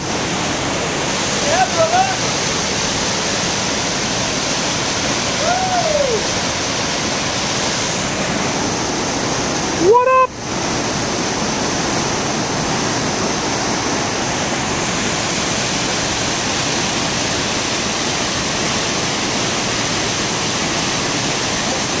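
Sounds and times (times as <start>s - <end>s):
waterfall and rapids rushing: 0.0s - 22.0s.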